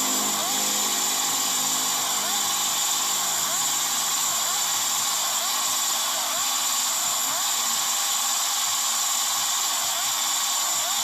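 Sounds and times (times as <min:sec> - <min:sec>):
two-stroke motorcycle engine revving: 0:00.0 - 0:11.0.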